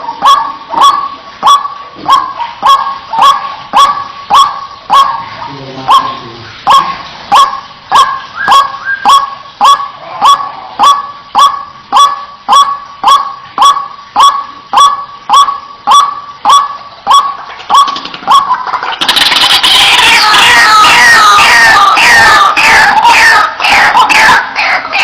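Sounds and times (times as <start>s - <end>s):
bird giving harsh wak calls: 0.0s - 25.0s.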